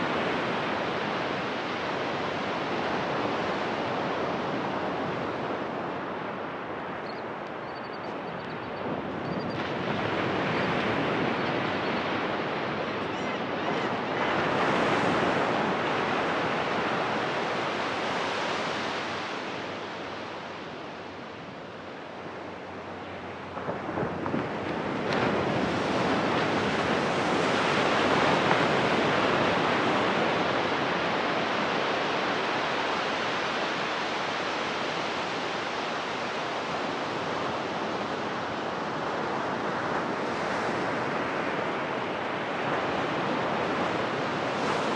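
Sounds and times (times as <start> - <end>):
ocean surf breaking on beach: 0.0 - 44.9.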